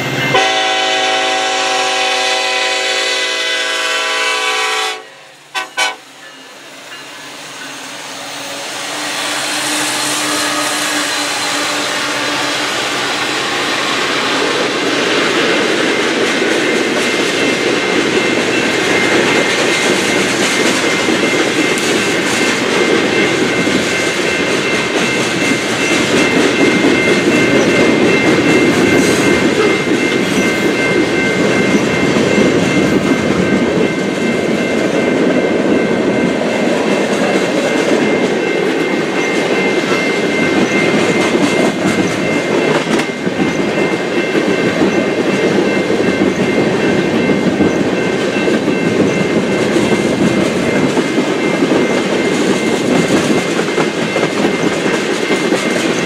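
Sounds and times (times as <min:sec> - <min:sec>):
freight cars rumbling on rails: 0:05.4 - 0:56.0.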